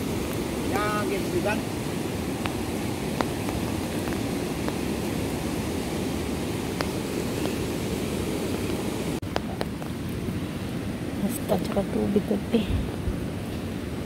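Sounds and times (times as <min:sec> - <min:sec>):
roaring wind and rain: 0:00.0 - 0:14.0.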